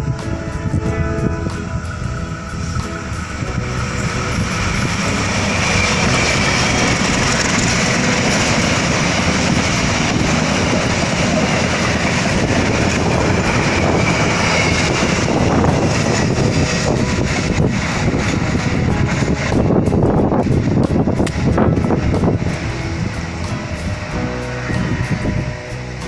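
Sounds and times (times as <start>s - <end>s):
train wheels rattling on rails: 0.0s - 26.0s.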